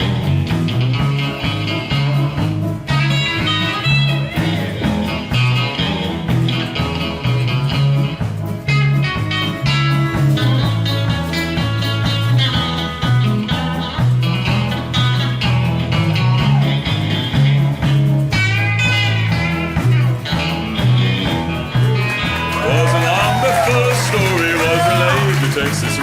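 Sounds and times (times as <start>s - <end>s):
pulsing bass line: 0.0s - 26.0s.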